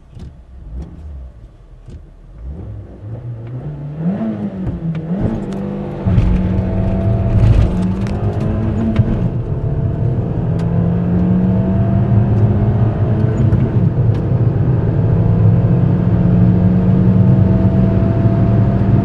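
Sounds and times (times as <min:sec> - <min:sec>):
car engine accelerating hard: 0:00.1 - 0:19.0.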